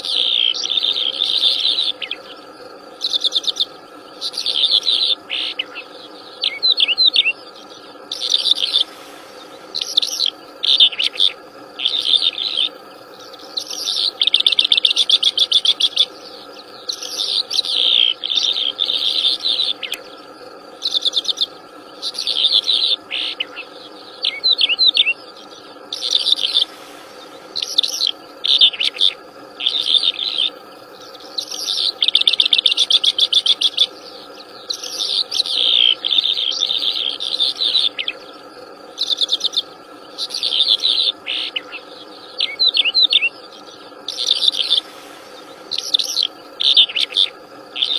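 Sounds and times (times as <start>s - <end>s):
songbird trilling and chattering: 0.0s - 2.4s, 3.0s - 47.9s
steady background hum: 0.0s - 47.9s.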